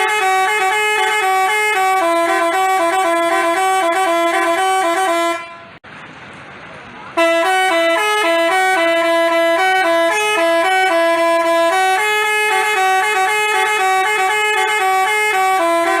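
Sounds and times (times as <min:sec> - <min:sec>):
musical bus horn playing tune: 0:00.0 - 0:05.8, 0:07.2 - 0:16.0.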